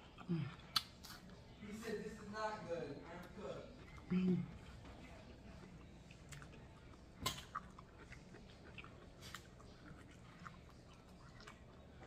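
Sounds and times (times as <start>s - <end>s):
person chewing fruit: 0.0s - 1.6s, 3.1s - 12.0s.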